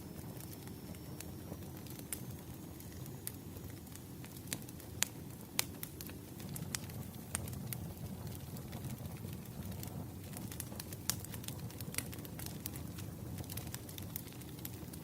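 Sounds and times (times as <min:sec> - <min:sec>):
wood fire crackling: 0:00.0 - 0:15.0
sharp pops and snaps: 0:02.8 - 0:15.0.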